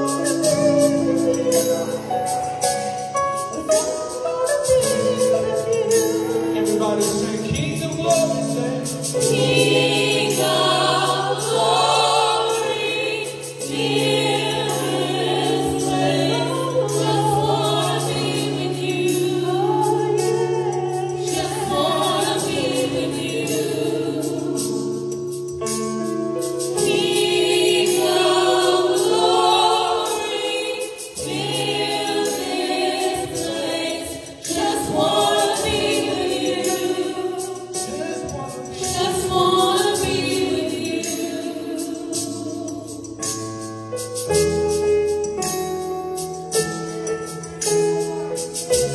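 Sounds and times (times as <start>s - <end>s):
women singing in harmony: 0.0s - 6.8s, 9.2s - 37.9s, 38.7s - 43.5s.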